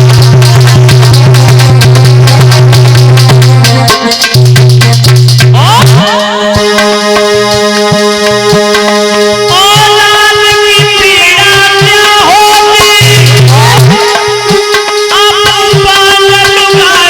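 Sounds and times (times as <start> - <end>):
drum beats: 0.0 - 17.0.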